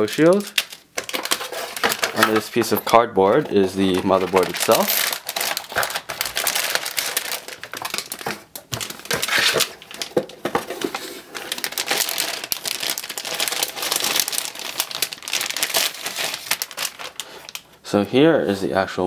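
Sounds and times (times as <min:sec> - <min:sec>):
plastic bag crinkling: 0:00.0 - 0:17.8.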